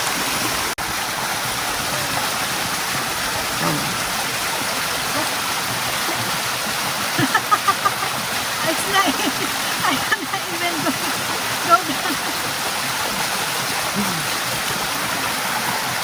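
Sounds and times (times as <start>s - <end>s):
waterfall and stream rushing: 0.0s - 16.0s.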